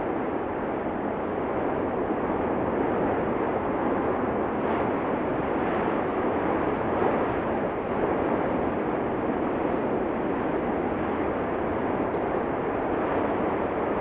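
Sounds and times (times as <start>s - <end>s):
volcanic eruption roaring: 0.0s - 14.0s.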